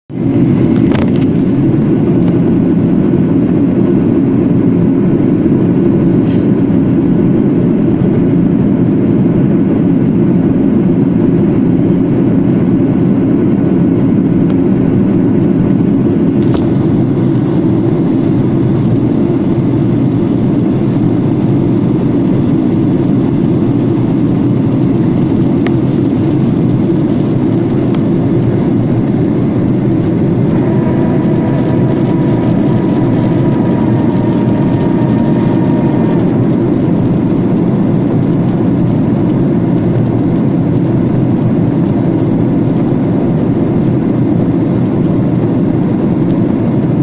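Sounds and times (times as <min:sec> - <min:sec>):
airplane cabin engine rumble: 0:00.1 - 0:47.0.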